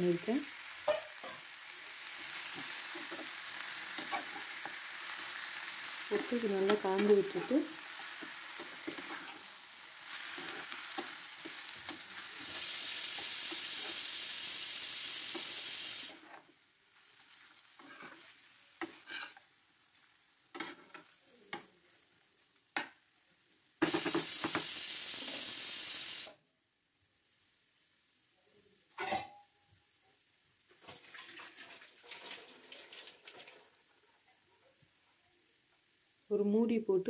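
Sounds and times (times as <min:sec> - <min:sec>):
chicken sizzling in oil: 0:00.0 - 0:26.4, 0:30.6 - 0:34.4.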